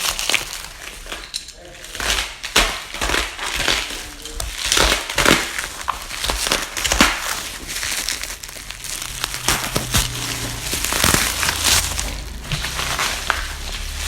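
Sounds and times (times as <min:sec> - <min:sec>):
packaging crumpling and crinkling: 0:00.0 - 0:14.0.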